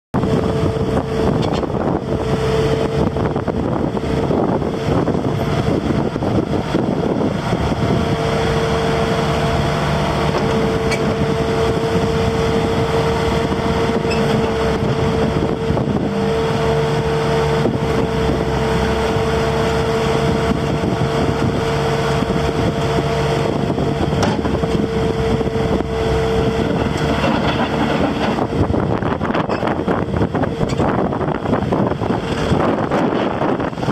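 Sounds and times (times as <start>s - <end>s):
loader diesel engine running: 0.2s - 33.9s
steady whine: 0.2s - 33.9s.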